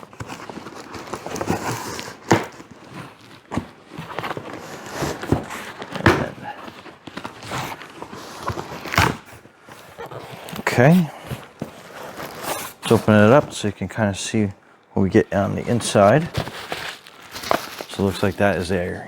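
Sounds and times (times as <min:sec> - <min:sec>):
cardboard box rustling and scraping: 0:00.0 - 0:13.8, 0:15.4 - 0:19.0.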